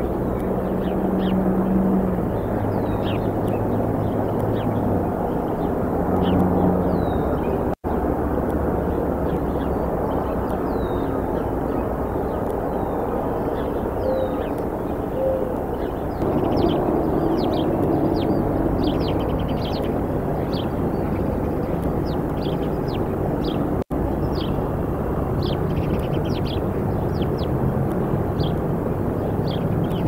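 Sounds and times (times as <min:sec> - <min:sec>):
small birds chirping: 0:00.0 - 0:07.8, 0:08.4 - 0:30.0
low drone of distant engine: 0:00.0 - 0:30.0.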